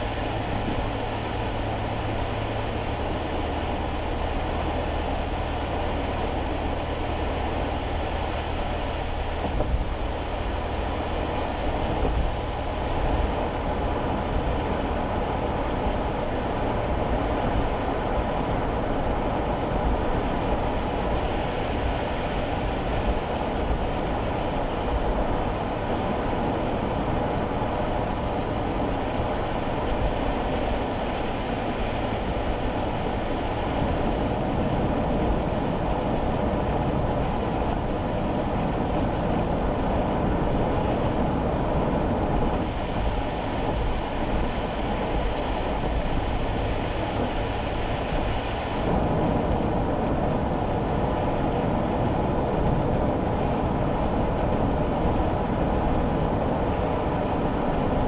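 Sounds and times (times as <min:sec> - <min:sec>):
car tyres and engine hum: 0:00.0 - 0:58.0.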